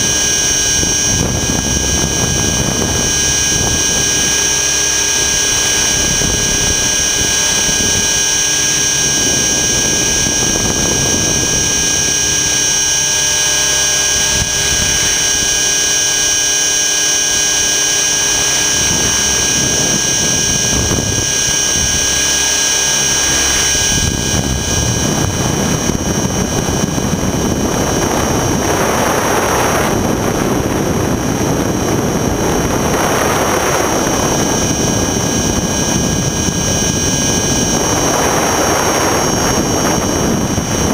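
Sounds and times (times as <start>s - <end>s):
rushing noise: 0.0s - 35.6s
rc helicopter motor whine: 0.0s - 40.9s.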